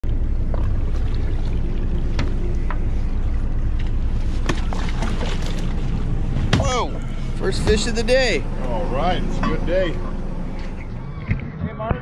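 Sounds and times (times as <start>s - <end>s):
water splashing at hull: 0.0s - 10.9s
boat engine droning: 0.0s - 11.5s.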